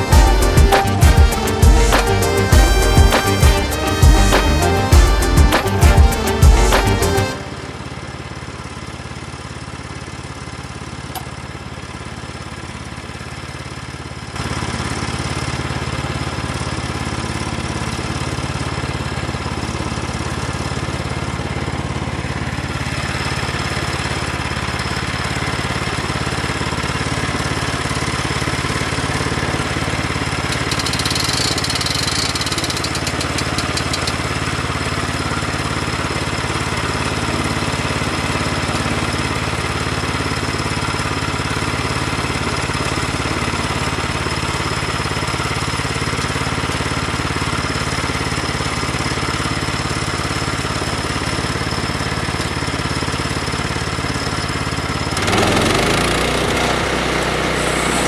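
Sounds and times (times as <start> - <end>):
sawmill engine idling: 0.0 - 58.0.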